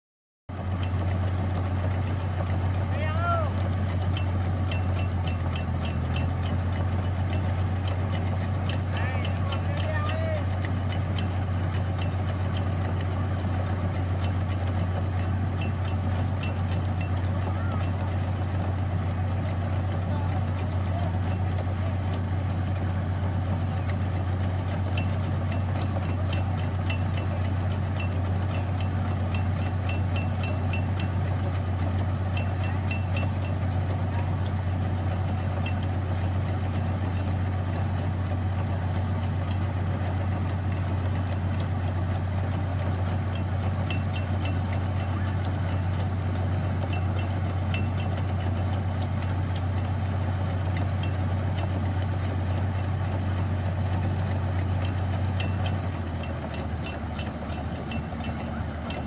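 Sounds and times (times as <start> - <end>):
combine harvester droning: 0.5 - 59.0.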